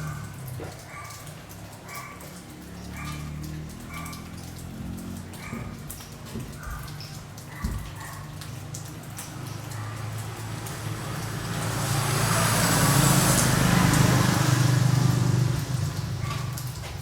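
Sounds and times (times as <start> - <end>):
vehicle passing by: 0.0 - 6.1, 8.3 - 17.0.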